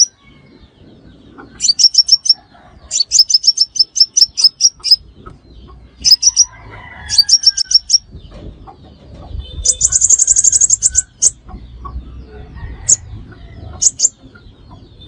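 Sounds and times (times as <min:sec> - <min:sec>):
bird chipping calls: 0:01.1 - 0:15.0.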